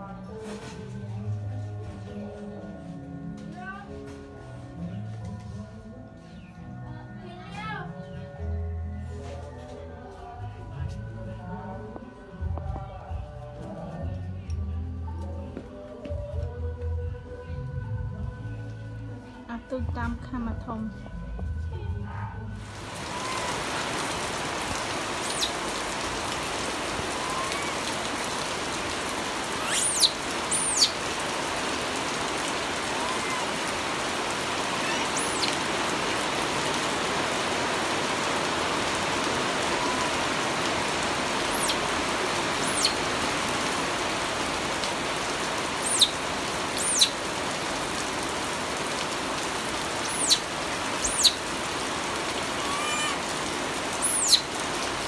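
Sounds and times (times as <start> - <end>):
steady rain falling: 9.0 - 20.0, 20.7 - 55.0.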